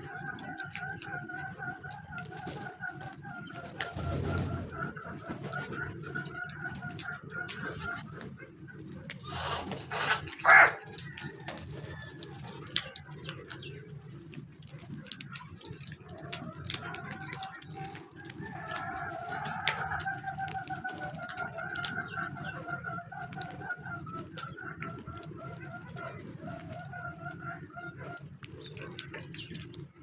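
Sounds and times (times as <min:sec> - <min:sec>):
birds calling: 0:00.0 - 0:12.0, 0:15.3 - 0:29.8.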